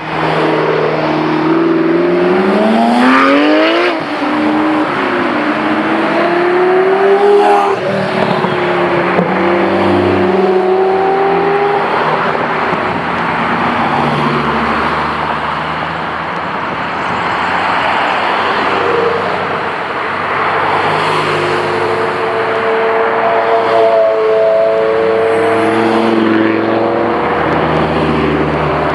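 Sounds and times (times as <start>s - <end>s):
road noise: 0.0s - 28.9s
sports car engines accelerating: 0.0s - 28.9s.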